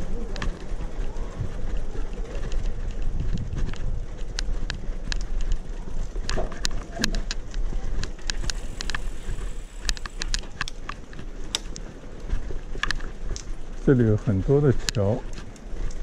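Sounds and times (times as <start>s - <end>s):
bicycle tyres rumbling on stone: 0.0s - 16.0s.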